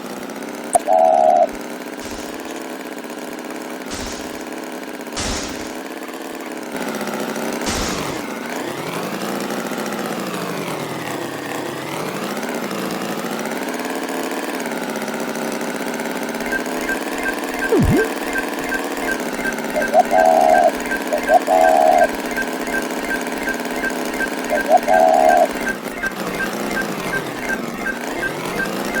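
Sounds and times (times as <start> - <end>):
engine running: 0.6 - 6.8, 7.6 - 9.9, 12.4 - 29.0.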